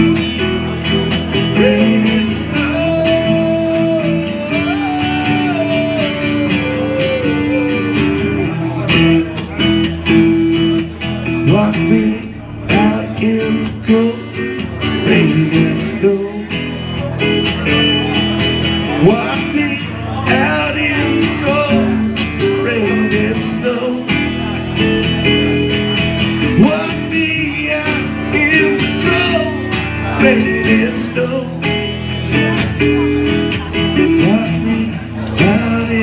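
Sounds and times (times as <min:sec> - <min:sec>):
person singing: 0:00.0 - 0:09.6, 0:11.3 - 0:16.9, 0:18.9 - 0:25.2, 0:26.4 - 0:36.0
acoustic guitar strumming: 0:00.0 - 0:36.0.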